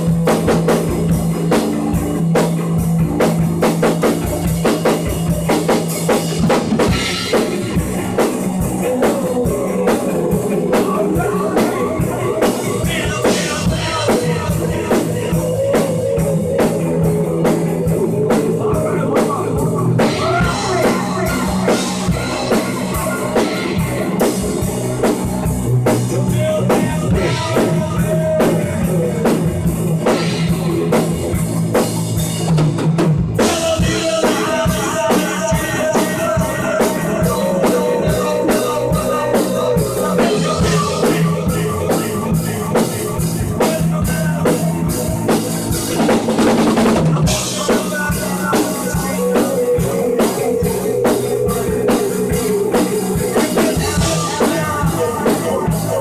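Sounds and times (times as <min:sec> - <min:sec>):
drum kit playing: 0:00.0 - 0:56.0
guitar chords: 0:00.0 - 0:56.0.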